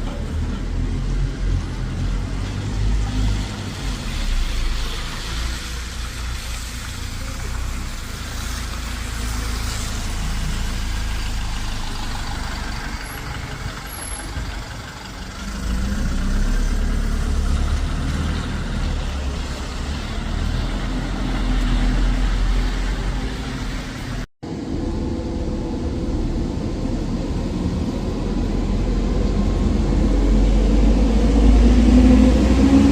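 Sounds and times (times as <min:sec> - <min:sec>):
bus engine rumbling: 0:00.0 - 0:32.9.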